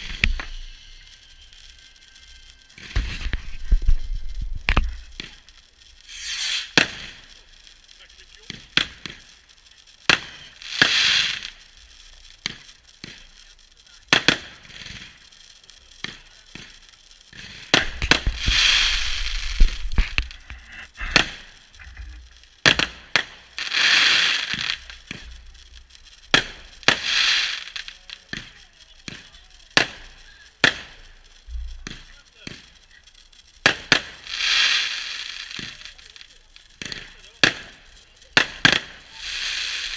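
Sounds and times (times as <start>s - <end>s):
fireworks bangs and cracks: 0.0s - 39.9s
hissing firework bursts: 0.0s - 39.9s.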